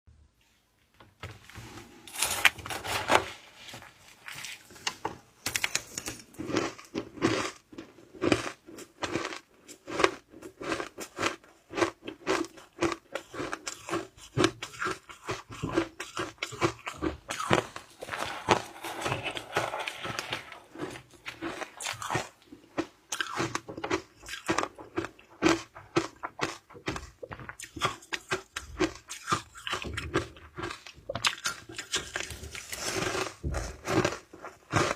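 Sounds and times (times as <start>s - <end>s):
ice crunching being chewed: 4.2s - 34.9s.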